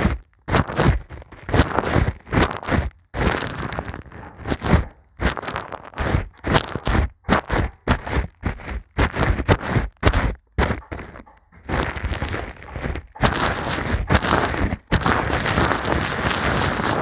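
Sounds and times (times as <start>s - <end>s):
brush scratching microphone windscreen: 0.0s - 17.0s.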